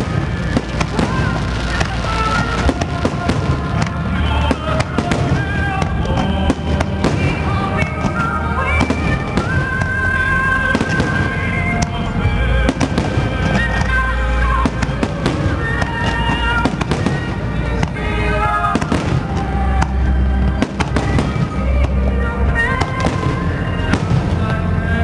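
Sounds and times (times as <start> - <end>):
fireworks bursting and crackling: 0.0 - 25.0
music playing: 0.0 - 25.0.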